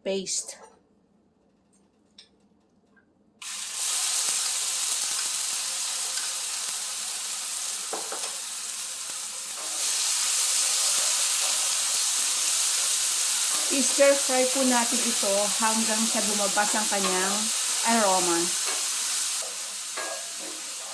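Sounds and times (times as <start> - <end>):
paste sizzling in hot oil: 3.4 - 20.9.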